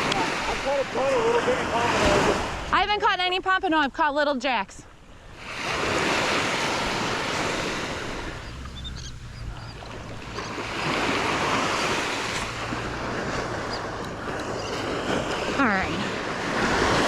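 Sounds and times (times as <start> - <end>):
ocean surf breaking: 0.0 - 3.3, 5.2 - 17.0.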